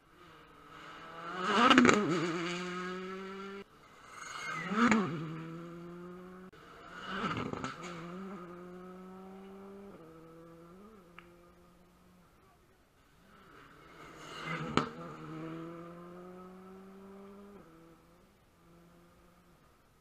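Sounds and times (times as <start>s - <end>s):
rally cars passing: 0.0s - 19.8s.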